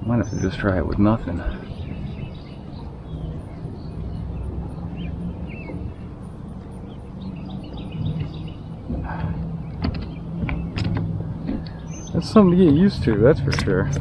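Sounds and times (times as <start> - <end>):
birds chirping: 0.0 - 14.0
outdoor background noise: 0.0 - 14.0.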